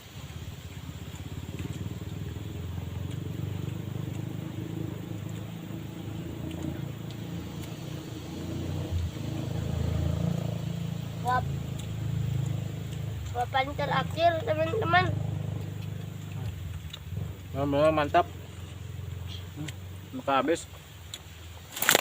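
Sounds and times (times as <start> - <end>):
small motor rumbling: 0.0 - 21.4.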